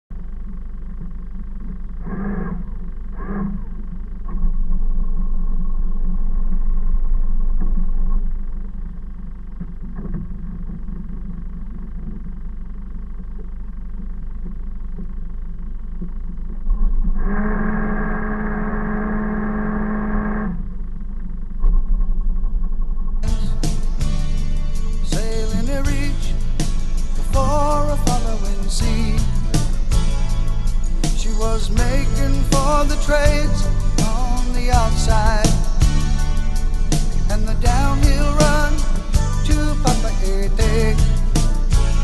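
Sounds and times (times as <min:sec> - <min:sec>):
boat engine idling: 0:00.1 - 0:42.0
loud droning tone: 0:00.1 - 0:42.0.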